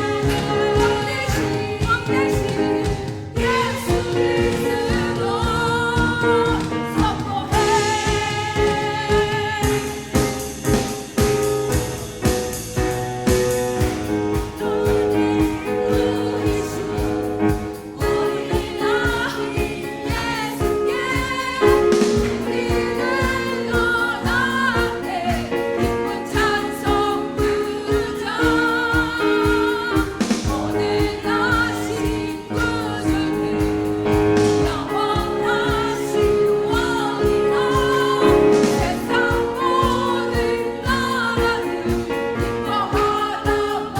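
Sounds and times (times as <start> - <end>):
instrumental accompaniment: 0.0 - 43.9
vocal ensemble singing a carol: 0.0 - 43.9.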